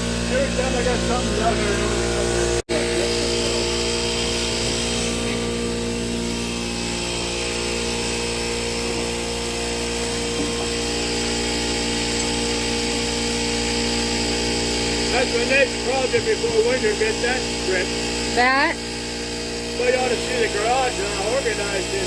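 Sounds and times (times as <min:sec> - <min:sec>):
motor humming steadily: 0:00.0 - 0:22.0.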